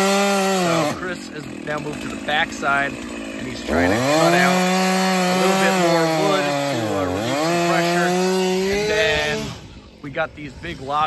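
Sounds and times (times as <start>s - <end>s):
chainsaw cutting wood: 0.0s - 9.9s.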